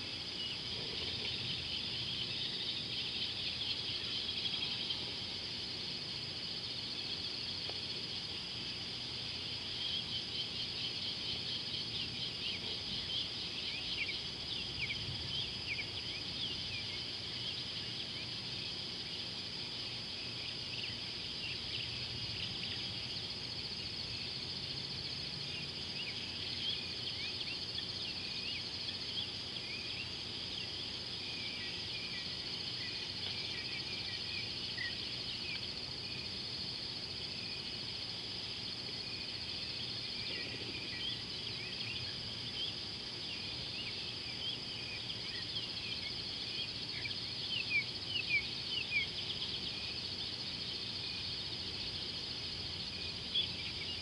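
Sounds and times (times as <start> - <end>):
high-pitched insect trill: 0.0 - 54.0
insects chirping: 0.0 - 54.0.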